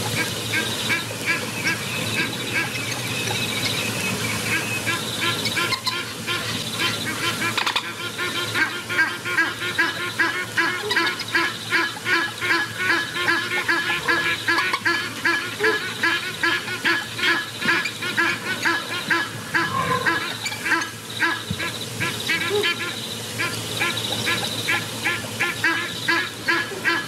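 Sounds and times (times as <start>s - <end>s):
rapid honking calls: 0.0s - 27.0s.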